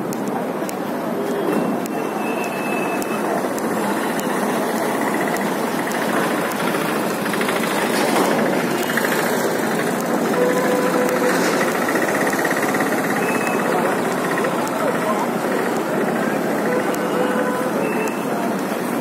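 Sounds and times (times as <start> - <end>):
people's voices: 0.0 - 19.0
vehicle engines running: 0.0 - 19.0.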